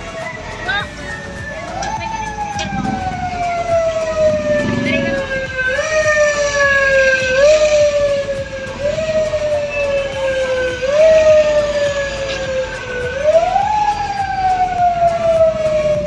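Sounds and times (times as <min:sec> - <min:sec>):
siren-like wailing tone: 0:00.1 - 0:16.0.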